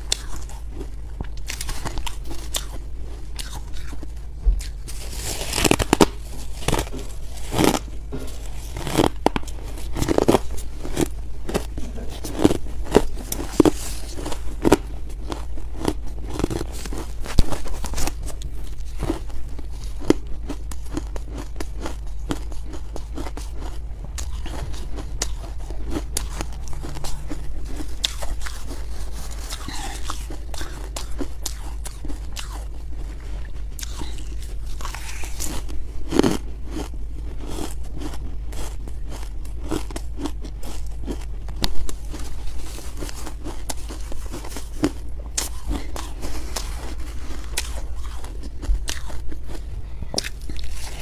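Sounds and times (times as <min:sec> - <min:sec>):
ice being chewed crunching: 0:00.0 - 0:51.0.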